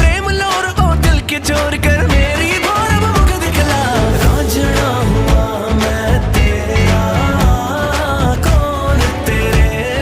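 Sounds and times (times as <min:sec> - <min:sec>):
pop song with vocals: 0:00.0 - 0:10.0.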